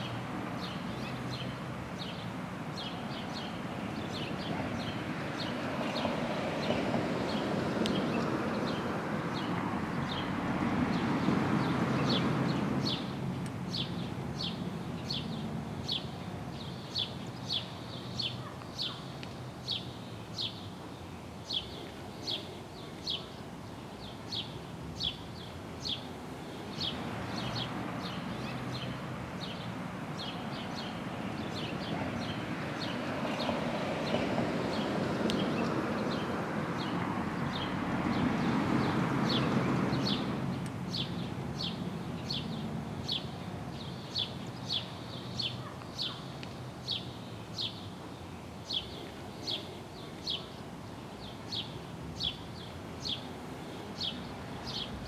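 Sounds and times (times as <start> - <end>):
bird chirping: 0.0 - 10.3, 10.9 - 55.0.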